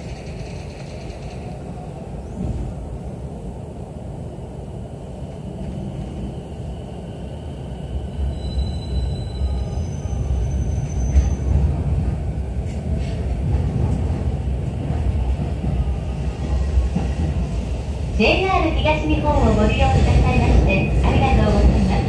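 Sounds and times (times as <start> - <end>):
electric train running rumble: 0.0 - 22.0.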